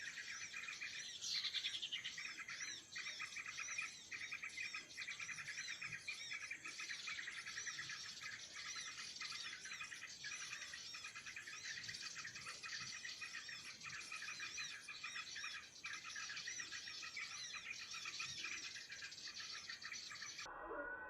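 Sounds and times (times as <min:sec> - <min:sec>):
flock of small birds chirping: 0:00.0 - 0:21.0.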